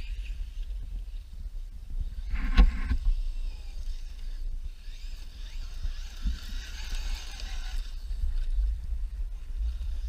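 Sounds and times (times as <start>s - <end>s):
rc truck driving over gravel: 0.0s - 1.3s, 2.0s - 10.0s
wind rumbling on microphone: 0.0s - 10.0s.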